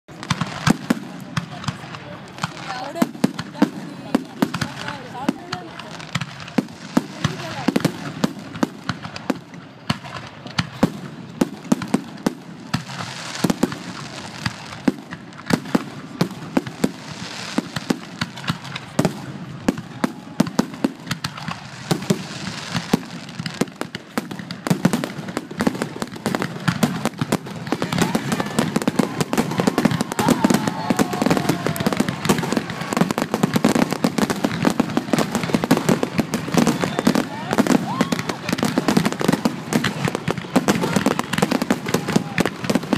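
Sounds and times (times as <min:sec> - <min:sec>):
fireworks bangs and pops: 0:00.1 - 0:42.9.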